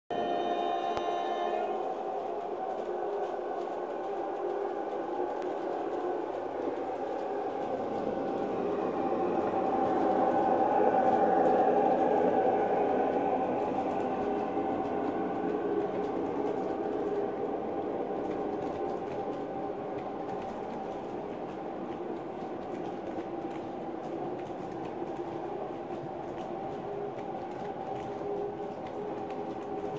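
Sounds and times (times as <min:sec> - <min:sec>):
model train running on track: 0:00.1 - 0:29.9.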